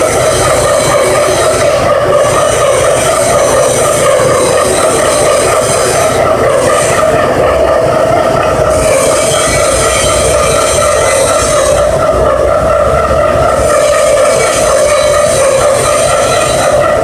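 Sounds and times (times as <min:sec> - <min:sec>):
milling machine cutting metal: 0:00.0 - 0:17.0.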